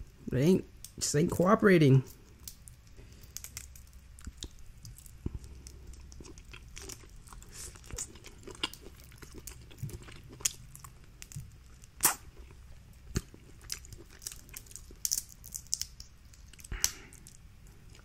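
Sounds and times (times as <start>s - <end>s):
shellfish shells cracking: 2.1s - 12.3s, 13.0s - 18.0s
close chewing: 2.3s - 18.0s.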